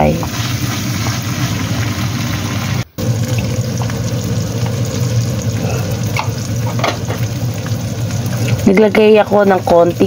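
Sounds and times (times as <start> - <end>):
meat sizzling in a wok: 0.0 - 10.0.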